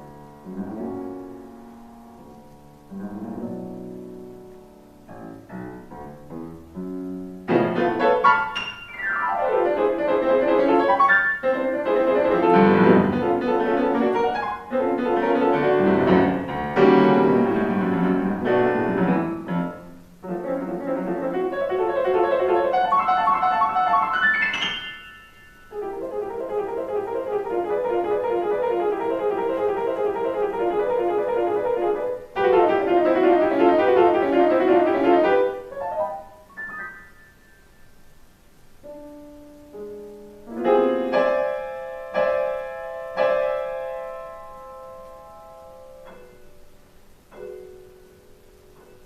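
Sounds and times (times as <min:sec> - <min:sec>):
solo piano playing: 0:00.0 - 0:49.0.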